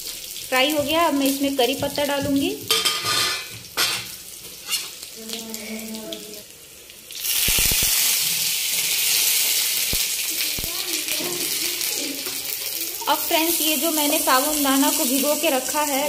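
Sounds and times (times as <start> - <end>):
leaves spluttering in hot oil: 0.0 - 16.0.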